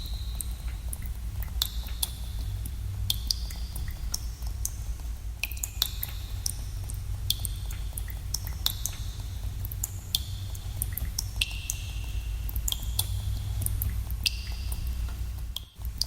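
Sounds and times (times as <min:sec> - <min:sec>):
steady low rumble: 0:00.0 - 0:16.0
water dripping in cave: 0:00.0 - 0:16.0.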